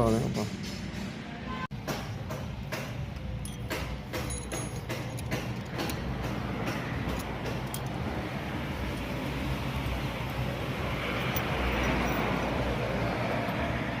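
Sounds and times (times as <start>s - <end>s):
traffic noise with low hum: 0.0s - 14.0s.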